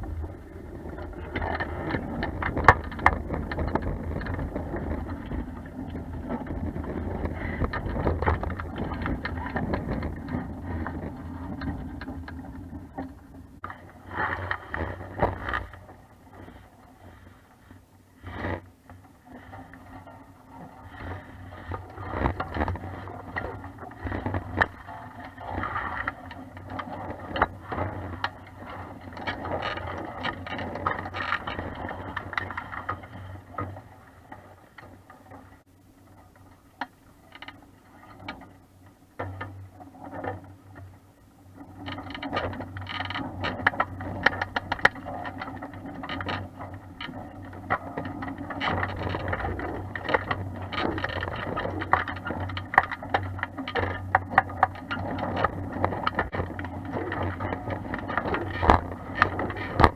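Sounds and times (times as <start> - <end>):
boat creaking and knocking: 0.0 - 16.4, 18.4 - 59.9.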